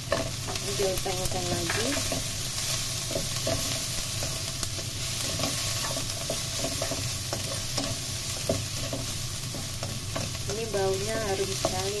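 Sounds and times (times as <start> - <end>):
spatula stirring and scraping: 0.0 - 12.0
vegetables sizzling in hot oil: 0.0 - 12.0.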